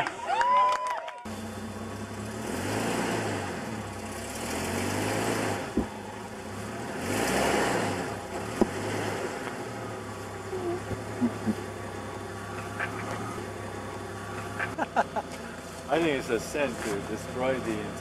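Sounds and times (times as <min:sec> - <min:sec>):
car engine revving: 0:01.3 - 0:18.0.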